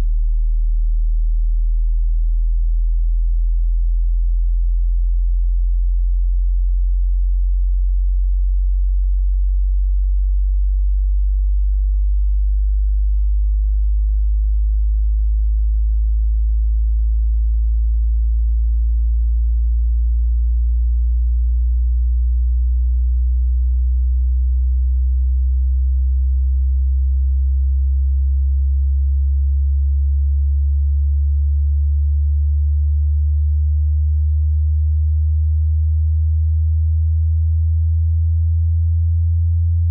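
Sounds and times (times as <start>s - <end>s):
low sine wave tone sweep: 0.0s - 39.9s.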